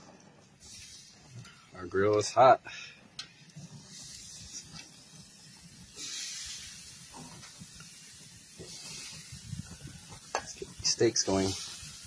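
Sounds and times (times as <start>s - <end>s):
steaks sizzling on grill: 0.5s - 2.6s, 3.2s - 12.0s.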